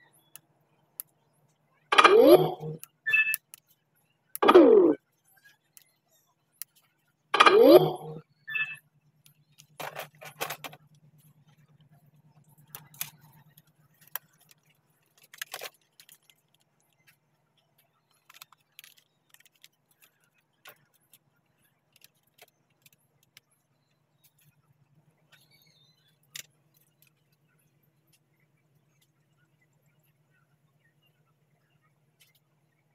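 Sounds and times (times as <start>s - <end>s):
faint low hum: 0.0s - 32.9s.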